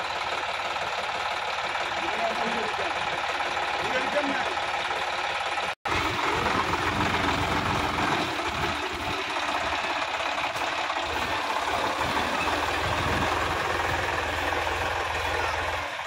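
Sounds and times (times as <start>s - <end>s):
tractor diesel engine clattering: 0.0s - 16.0s.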